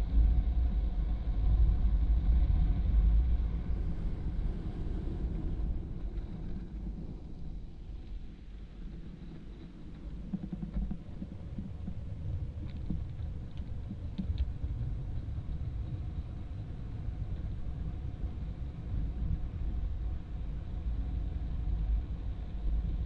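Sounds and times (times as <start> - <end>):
wheels rumbling on wet asphalt: 1.0 - 23.0.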